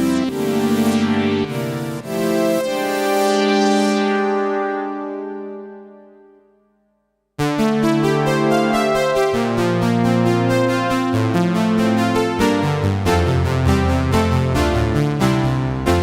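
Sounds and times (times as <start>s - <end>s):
synthesizer chords with reverb: 0.0s - 16.0s.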